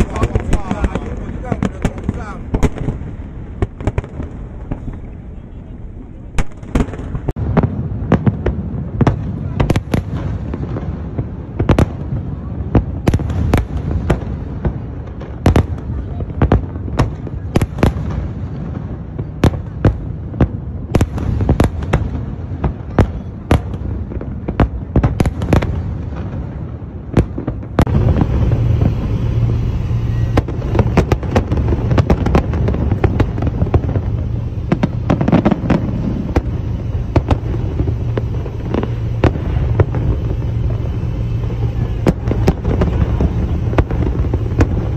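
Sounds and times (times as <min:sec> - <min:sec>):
constant low rumble: 0:00.0 - 0:44.9
fireworks bangs: 0:00.0 - 0:44.9.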